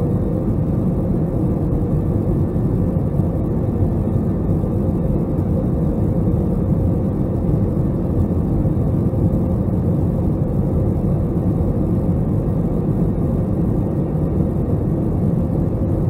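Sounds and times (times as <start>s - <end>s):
airplane engine and airflow rumble: 0.0s - 16.0s.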